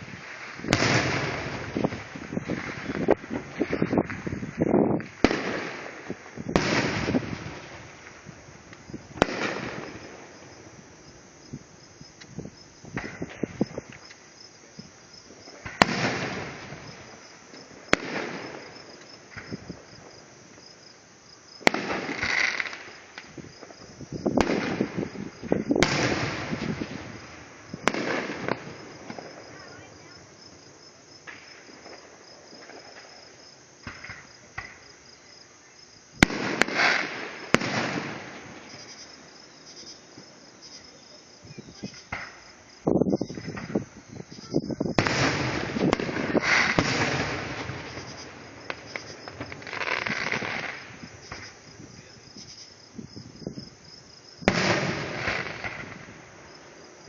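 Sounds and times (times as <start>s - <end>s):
fireworks bangs: 0.0s - 35.1s, 36.1s - 57.0s
crickets chirping: 0.0s - 57.0s.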